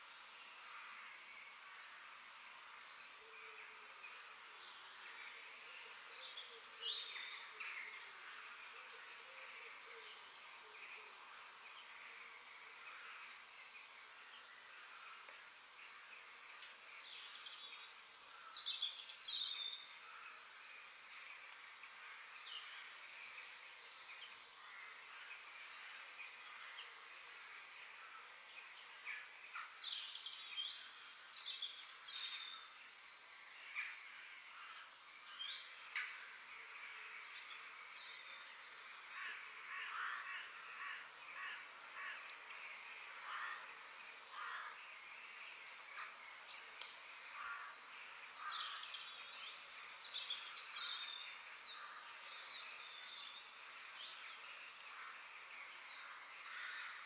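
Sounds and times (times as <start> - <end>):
high background hiss: 0.0 - 57.0.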